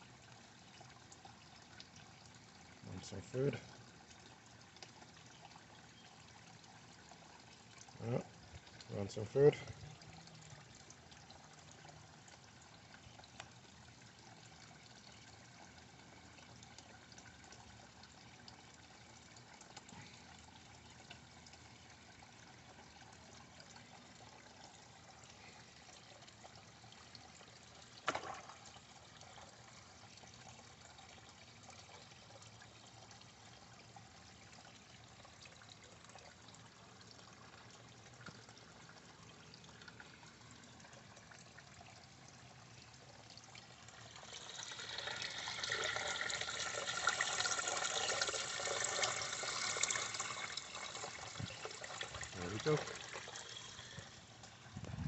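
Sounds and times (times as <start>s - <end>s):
faint water trickling: 0.0s - 55.0s.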